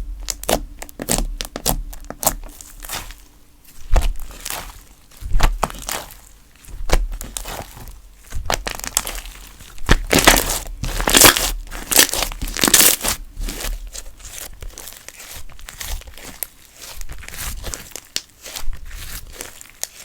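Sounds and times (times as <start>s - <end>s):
slime crackling and squelching: 0.0s - 20.0s.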